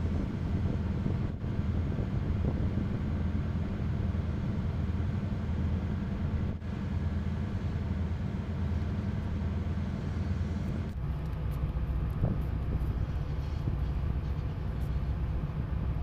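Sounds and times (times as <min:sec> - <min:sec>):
boat diesel engine droning: 0:00.0 - 0:16.0.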